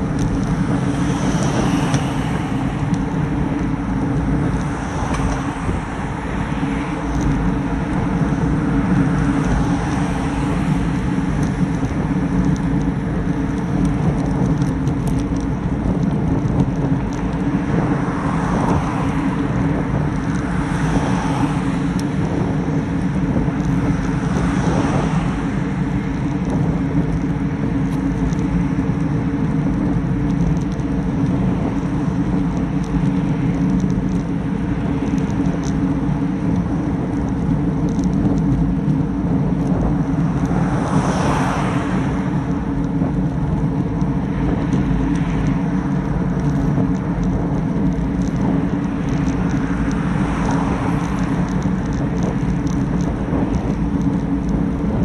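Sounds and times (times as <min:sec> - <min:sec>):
cars passing: 0:00.0 - 0:55.0
tyres rumbling on road: 0:00.0 - 0:55.0
wind noise: 0:00.0 - 0:55.0.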